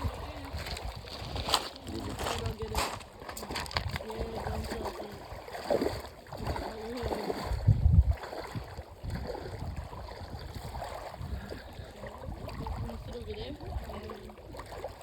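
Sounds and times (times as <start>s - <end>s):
water sloshing and lapping: 0.0s - 15.0s.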